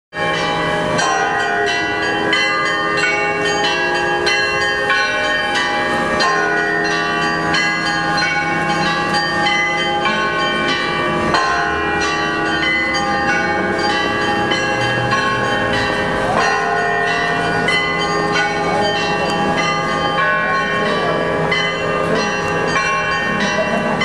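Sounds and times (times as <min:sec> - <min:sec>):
church bells ringing a peal: 0:00.2 - 0:24.0
low bell tone: 0:00.2 - 0:24.0.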